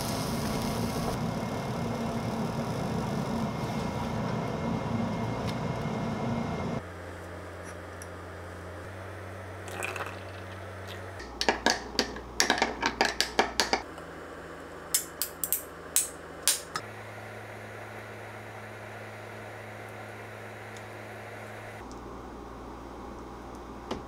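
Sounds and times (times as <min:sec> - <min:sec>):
low hum: 0:00.0 - 0:12.4, 0:15.6 - 0:23.8.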